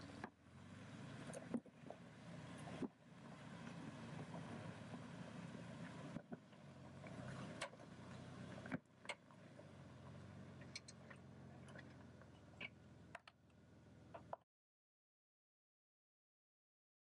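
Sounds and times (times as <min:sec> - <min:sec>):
low vehicle engine hum: 0:00.0 - 0:14.4.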